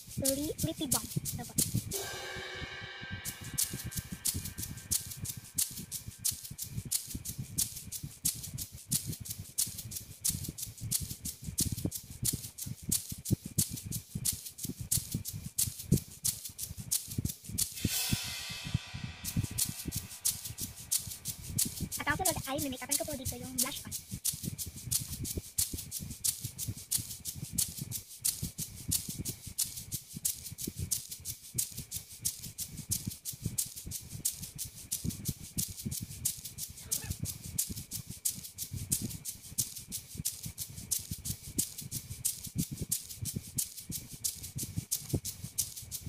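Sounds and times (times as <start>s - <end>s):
fast shaker rattle: 0.0s - 46.0s.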